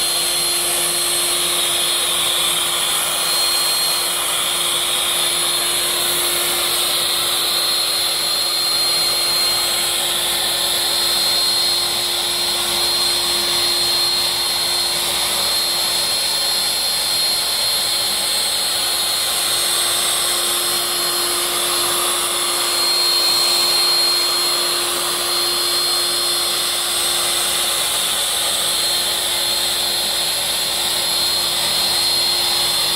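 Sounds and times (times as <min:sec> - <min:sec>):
dust extraction drawing through hose: 0:00.0 - 0:32.9
router spindle whining: 0:00.0 - 0:32.9.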